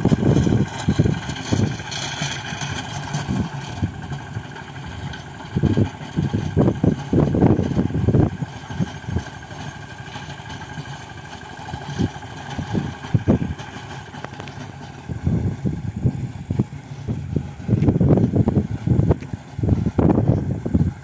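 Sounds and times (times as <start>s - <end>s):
tractor diesel engine running: 0.0s - 21.0s
wind buffeting microphone: 0.0s - 21.0s.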